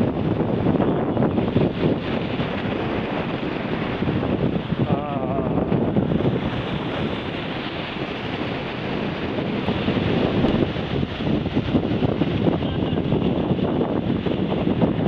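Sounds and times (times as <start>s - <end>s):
sea waves splashing: 0.0s - 15.0s
wind on microphone: 0.0s - 15.0s.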